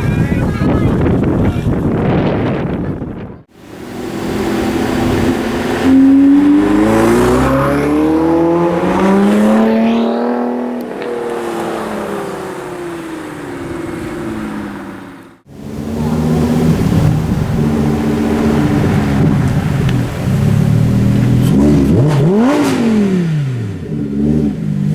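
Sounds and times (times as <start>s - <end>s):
car engine accelerating hard: 3.5s - 24.9s.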